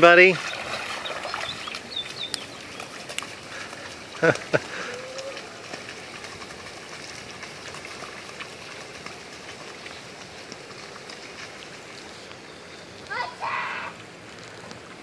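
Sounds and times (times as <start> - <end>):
rain on wet street: 1.5 - 13.2, 13.9 - 15.0
faint rain ticks: 1.6 - 13.2, 13.9 - 15.0.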